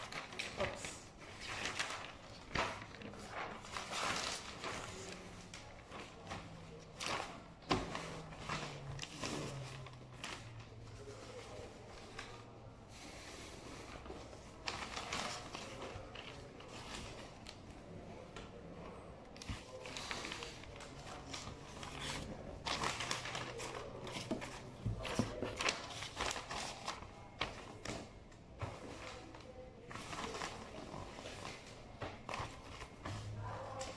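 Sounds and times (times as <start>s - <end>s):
wrapping paper rustling: 0.0s - 18.0s, 19.3s - 33.9s.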